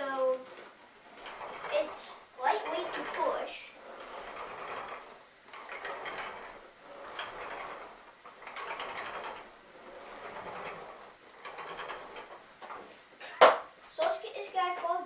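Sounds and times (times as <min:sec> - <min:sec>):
vacuum cleaner rolling across floor: 0:00.0 - 0:15.0.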